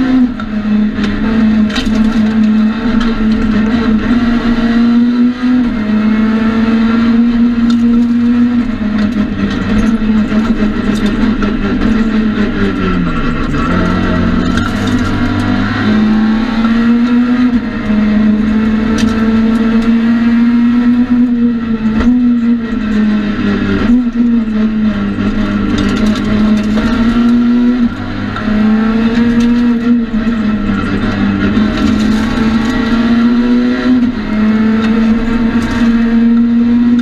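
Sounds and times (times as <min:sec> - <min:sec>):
rally car engine at high revs: 0:00.0 - 0:37.0.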